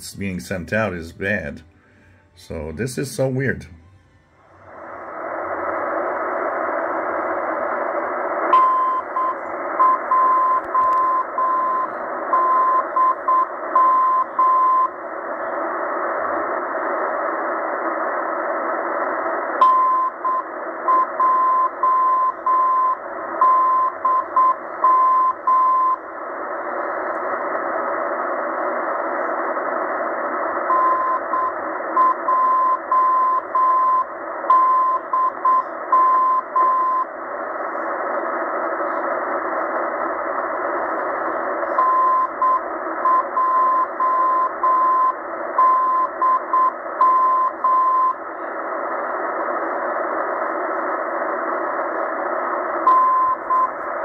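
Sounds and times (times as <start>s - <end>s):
radio band hiss: 0.0s - 54.0s.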